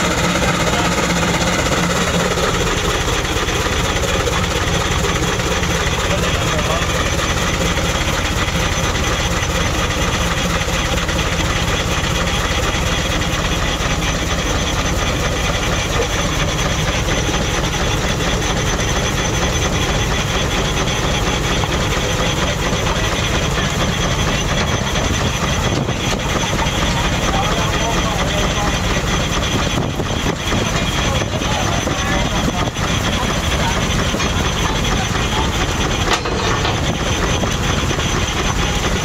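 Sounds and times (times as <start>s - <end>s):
steam traction engine running: 0.0s - 39.0s.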